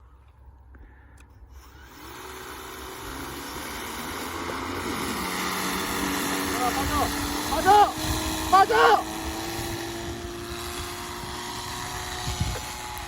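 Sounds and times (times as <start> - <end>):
engine running: 1.2 - 13.0.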